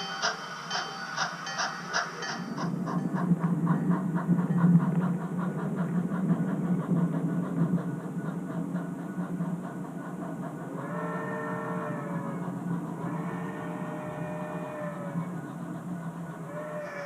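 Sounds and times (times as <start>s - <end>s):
train wheels clicking: 0.0s - 17.0s.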